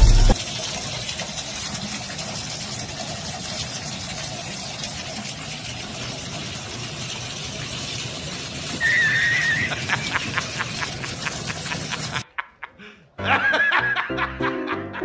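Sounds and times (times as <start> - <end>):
water running from bathtub spout: 0.0 - 12.2.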